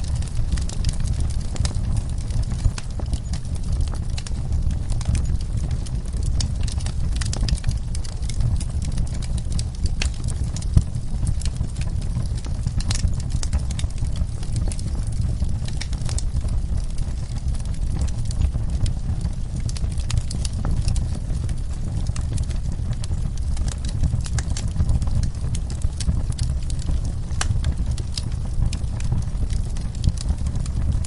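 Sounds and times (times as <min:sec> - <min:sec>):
low rumble: 0:00.0 - 0:31.0
wood fire crackling: 0:00.0 - 0:31.0.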